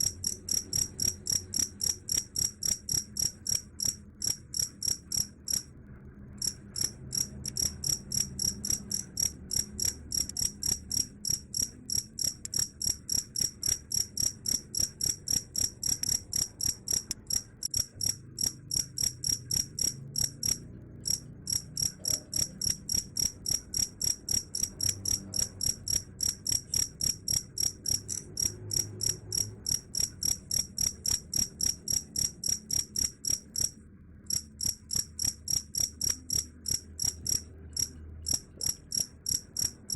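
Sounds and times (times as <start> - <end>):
cricket chirping: 0.0 - 5.7, 6.4 - 39.9.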